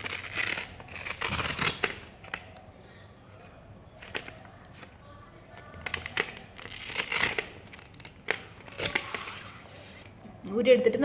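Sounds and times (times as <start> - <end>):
cloth and plastic rustling: 0.0 - 10.1.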